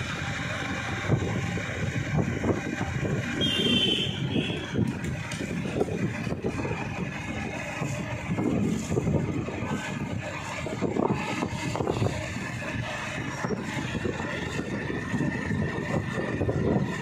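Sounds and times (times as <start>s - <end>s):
vehicle running noise: 0.0s - 17.0s
wind buffeting microphone: 0.0s - 17.0s.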